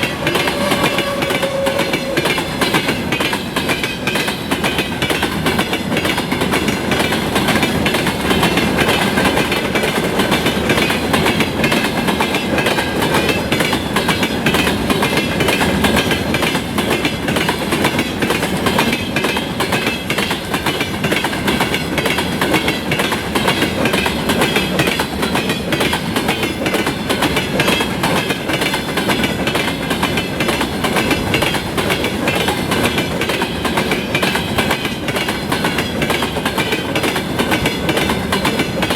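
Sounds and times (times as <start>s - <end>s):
train wheels knocking over rail joints: 0.0s - 38.9s.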